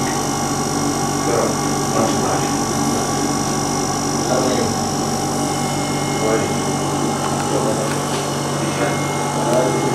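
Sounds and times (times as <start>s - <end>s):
machine hum: 0.0s - 9.9s.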